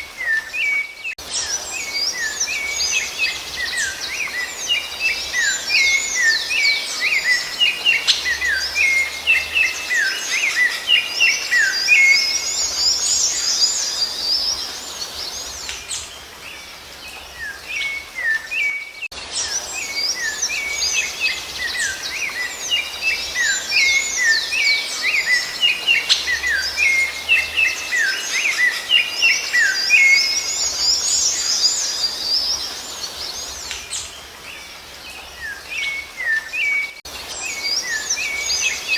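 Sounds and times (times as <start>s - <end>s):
thrush singing whistled notes: 0.0s - 38.9s.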